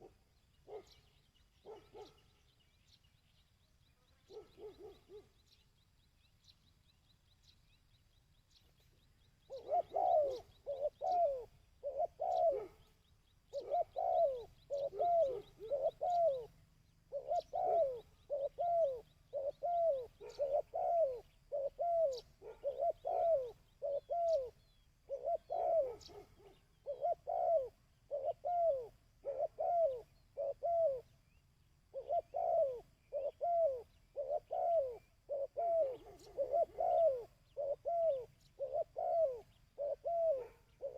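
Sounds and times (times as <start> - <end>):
dove cooing: 0.0 - 2.4, 4.1 - 5.5, 9.4 - 40.9.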